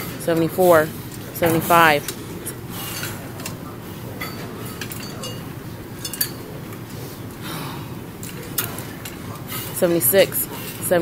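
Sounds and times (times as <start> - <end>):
gym background noise: 0.0 - 11.0.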